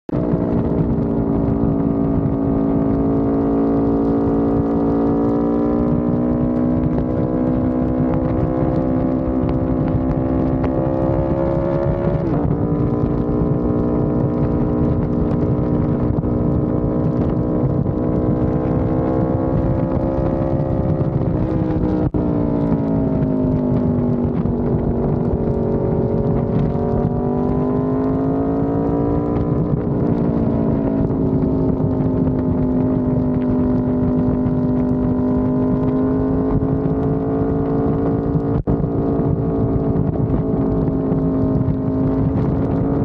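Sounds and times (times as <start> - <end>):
motorcycle engine cruising: 0.1 - 43.0.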